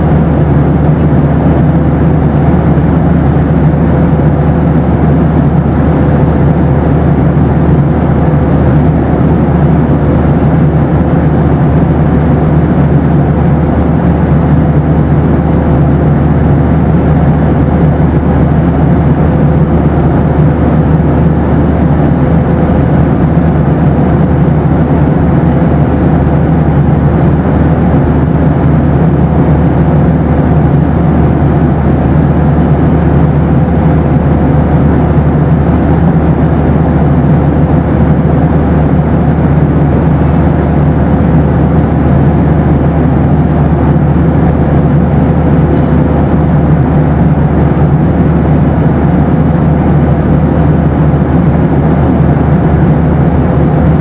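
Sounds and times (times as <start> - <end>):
aircraft cabin rumble: 0.0 - 54.0
thin steady hum: 0.0 - 54.0.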